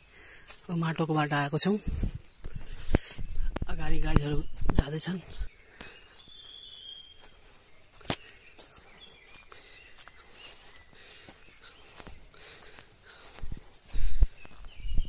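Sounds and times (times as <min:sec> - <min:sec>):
birds whistling and chirping: 0:01.4 - 0:15.0.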